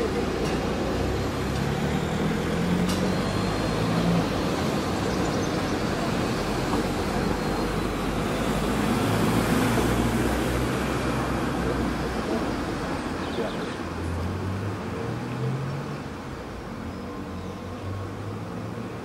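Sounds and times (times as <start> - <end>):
passing vehicle engine hum: 0.0 - 19.0
road traffic noise: 0.0 - 19.0.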